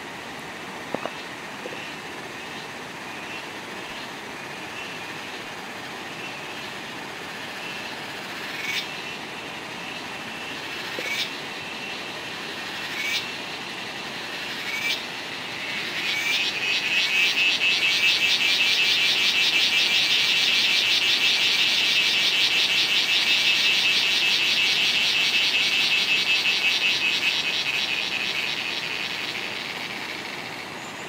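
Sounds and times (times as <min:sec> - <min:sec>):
cicada buzzing: 0:00.9 - 0:30.9.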